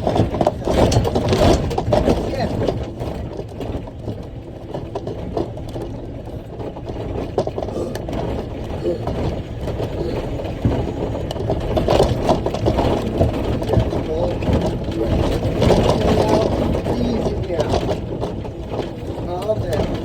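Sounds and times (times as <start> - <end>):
cab rattling and clattering: 0.0 - 20.0
truck engine low rumble: 0.0 - 20.0.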